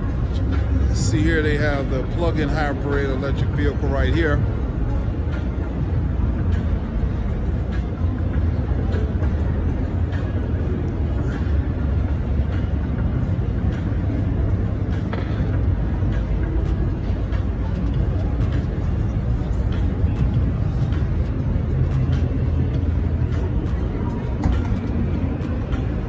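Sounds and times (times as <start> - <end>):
indistinct crowd voices: 0.0 - 26.0.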